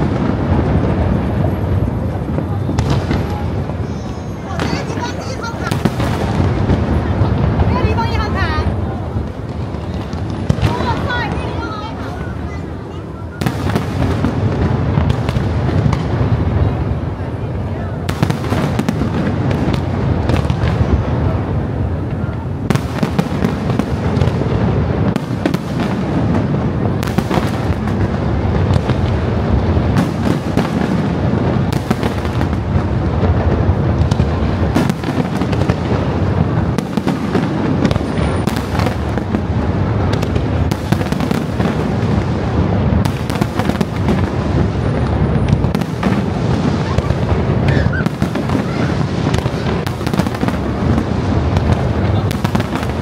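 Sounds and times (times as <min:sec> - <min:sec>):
deep firework booms: 0:00.0 - 0:53.0
sharp firework cracks: 0:00.0 - 0:53.0.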